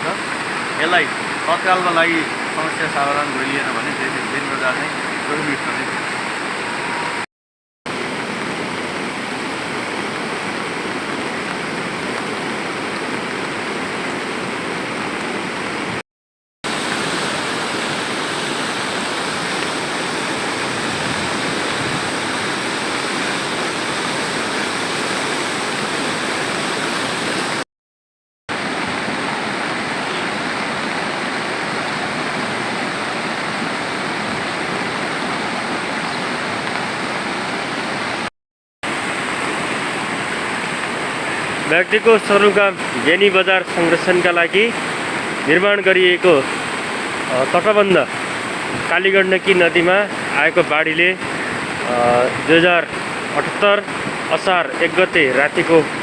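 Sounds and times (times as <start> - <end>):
rushing river water: 0.0 - 7.3, 7.9 - 16.0, 16.7 - 27.6, 28.5 - 56.0.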